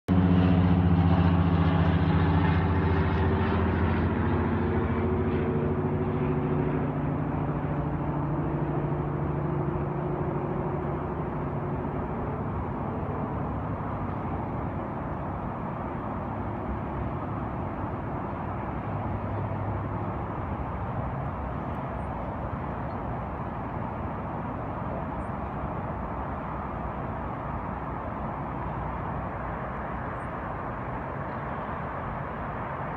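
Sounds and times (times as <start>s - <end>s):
traffic rumble: 0.1s - 32.9s
vehicle engine hum: 0.1s - 32.9s.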